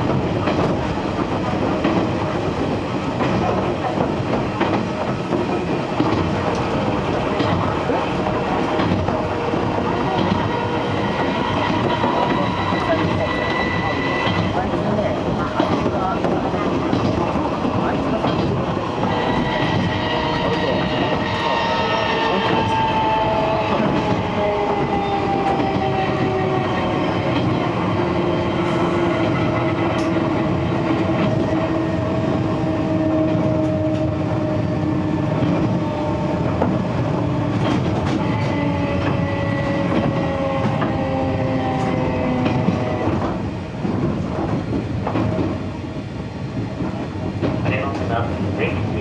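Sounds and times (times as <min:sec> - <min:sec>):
rail-joint clicks: 0:00.0 - 0:31.7, 0:35.2 - 0:41.1, 0:41.7 - 0:45.6.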